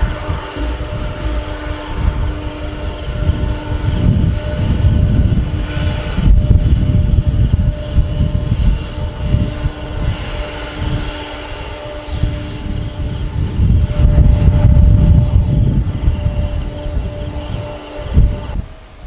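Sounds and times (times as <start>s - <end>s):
faint whining tones: 0.0s - 19.0s
jet engines rumbling: 0.0s - 19.0s.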